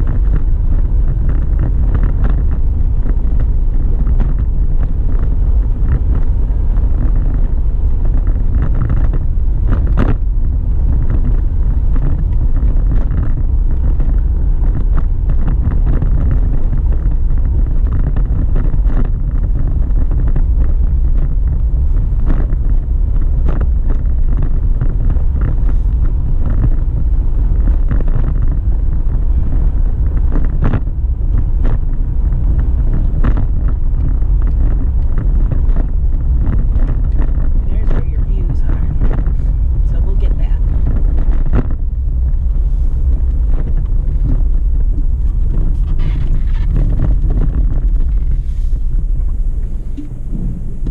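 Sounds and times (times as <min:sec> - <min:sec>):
road and engine rumble: 0:00.0 - 0:50.9.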